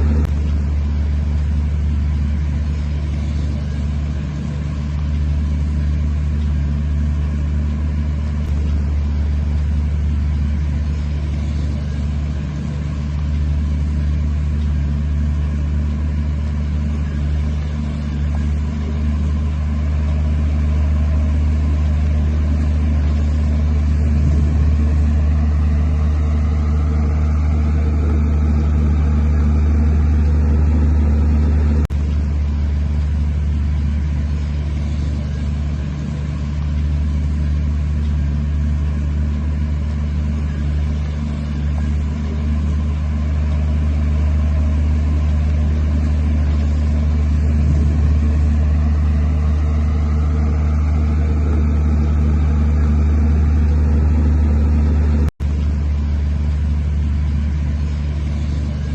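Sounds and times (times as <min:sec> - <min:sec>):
heavy diesel engine humming: 0:00.0 - 0:58.9.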